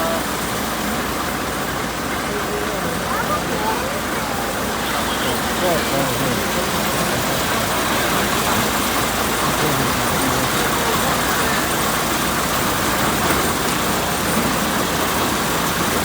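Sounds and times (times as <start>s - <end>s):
road noise: 0.0s - 16.0s
truck engine: 0.0s - 16.0s.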